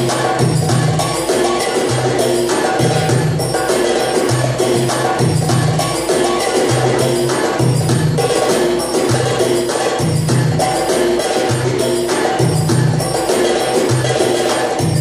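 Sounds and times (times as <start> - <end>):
dance music with hand percussion: 0.0 - 15.0
repeating bass line: 0.0 - 15.0.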